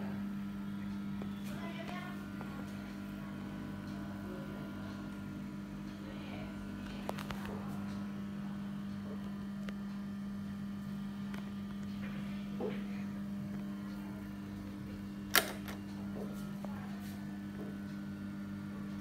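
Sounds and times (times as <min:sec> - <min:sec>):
electric fan motor hum: 0:00.0 - 0:19.0.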